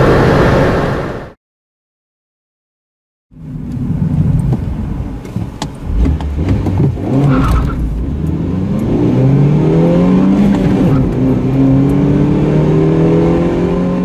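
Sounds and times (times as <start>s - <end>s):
car engine drone: 0.0s - 1.4s, 3.3s - 14.0s.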